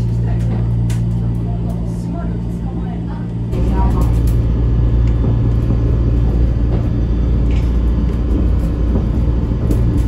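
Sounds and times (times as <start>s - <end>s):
monorail car rumble and hum: 0.0s - 10.0s.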